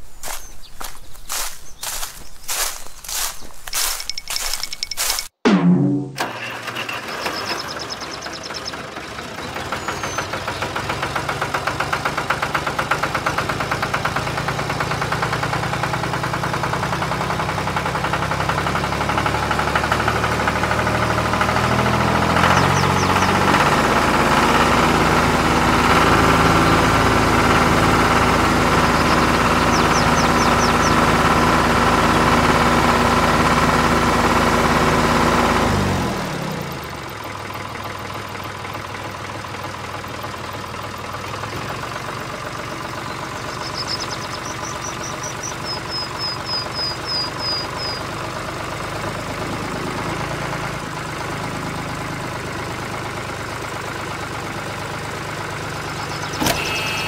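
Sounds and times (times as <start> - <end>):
diesel tractor engine knocking: 6.2 - 57.0.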